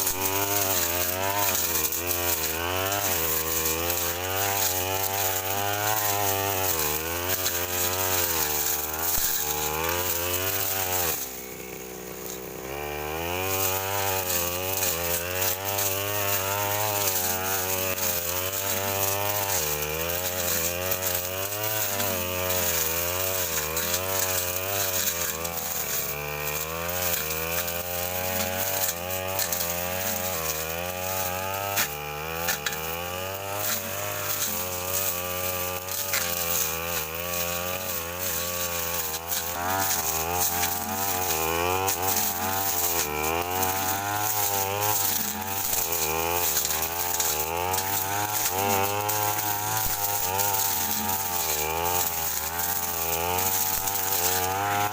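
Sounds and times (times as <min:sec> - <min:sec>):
brush cutter engine revving: 0:00.0 - 0:54.9.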